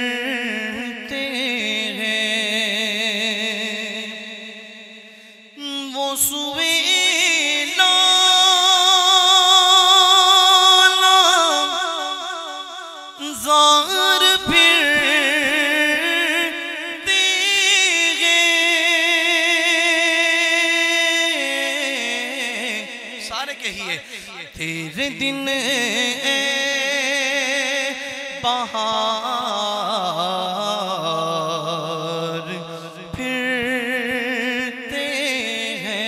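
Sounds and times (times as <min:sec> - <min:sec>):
man reciting melodically: 0:00.0 - 0:36.0.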